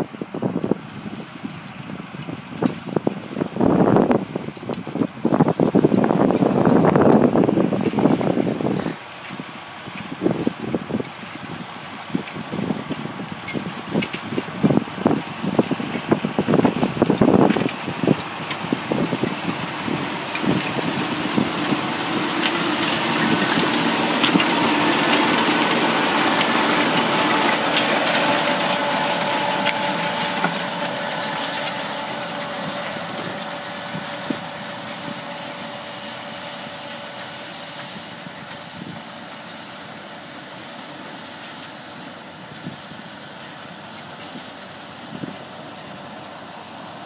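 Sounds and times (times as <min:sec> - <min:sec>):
tractor engine working: 0:00.0 - 0:47.0.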